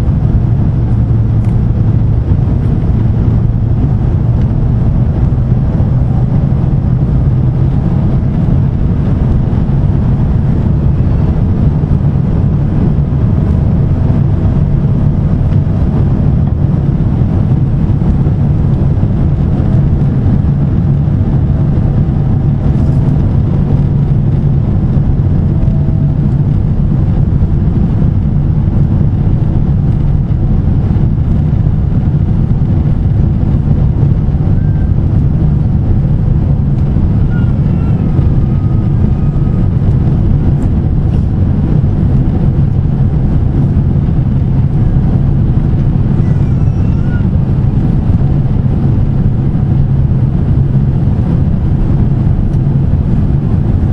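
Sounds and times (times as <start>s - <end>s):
airplane engine and airflow noise: 0.0s - 53.9s.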